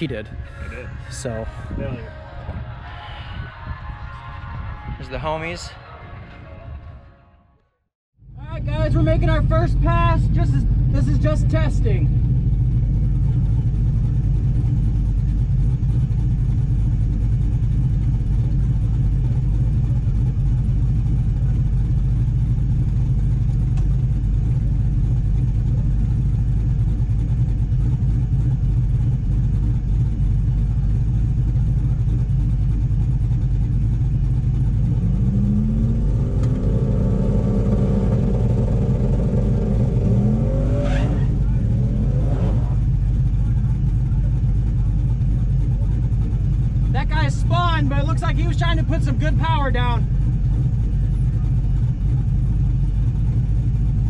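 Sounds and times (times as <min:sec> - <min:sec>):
truck engine idling and revving: 0:00.0 - 0:07.3, 0:08.2 - 0:54.0.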